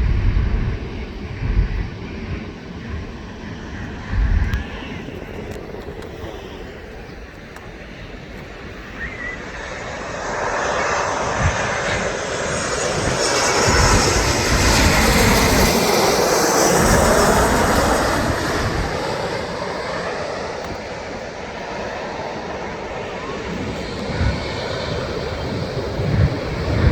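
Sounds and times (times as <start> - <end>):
jet airliner passing overhead: 0.0 - 26.9
wind buffeting microphone: 0.0 - 26.9.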